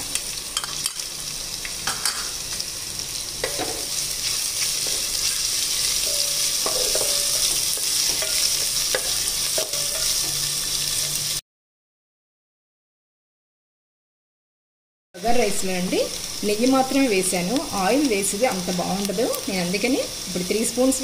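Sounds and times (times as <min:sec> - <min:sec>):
onions sizzling in a pan: 0:00.0 - 0:11.4, 0:15.2 - 0:21.0.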